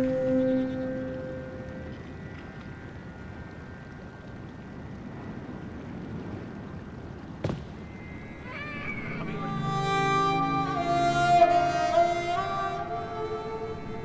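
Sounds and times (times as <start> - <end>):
film music with sustained melody: 0.0 - 6.2, 7.8 - 14.0
outdoor background hiss: 0.0 - 14.0.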